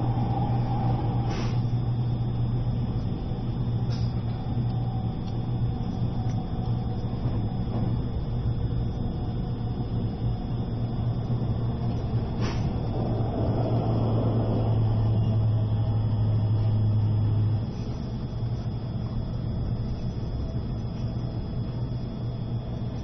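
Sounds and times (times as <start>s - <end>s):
train interior hum and rumble: 0.0s - 23.0s.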